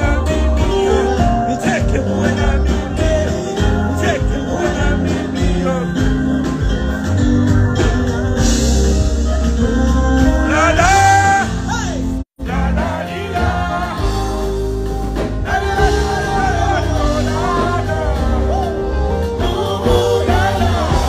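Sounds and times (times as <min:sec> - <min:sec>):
person singing: 0:00.0 - 0:11.6, 0:15.5 - 0:21.0.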